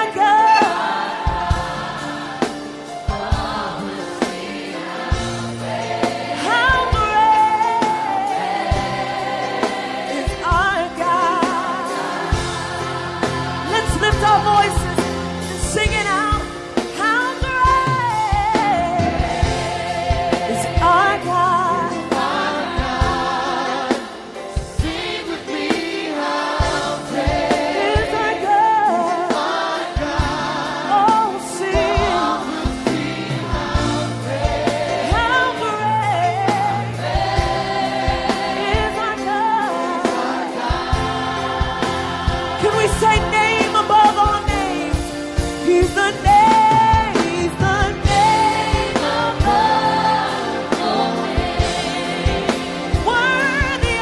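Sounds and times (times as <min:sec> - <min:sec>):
band playing: 0:00.0 - 0:54.0
choir singing: 0:00.0 - 0:54.0
drums beating: 0:00.0 - 0:54.0.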